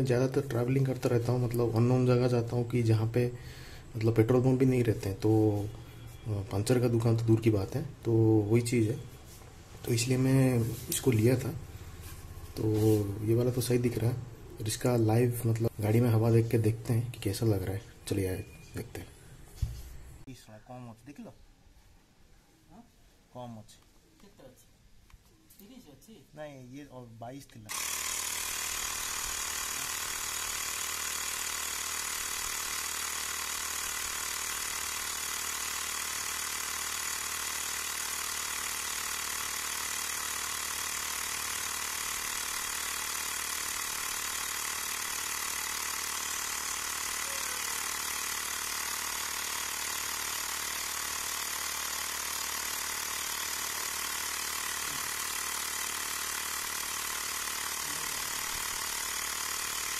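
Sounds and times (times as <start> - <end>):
electric air compressor running: 0.0 - 20.2, 27.7 - 59.9.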